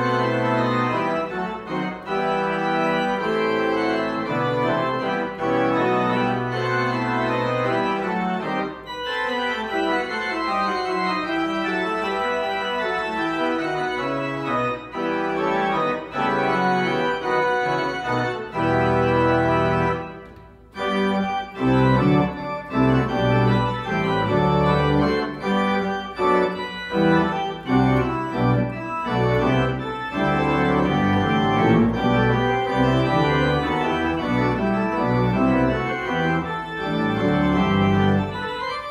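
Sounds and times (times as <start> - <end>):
church organ playing chords: 0.0 - 38.9
deep organ pedal bass notes: 0.0 - 38.9.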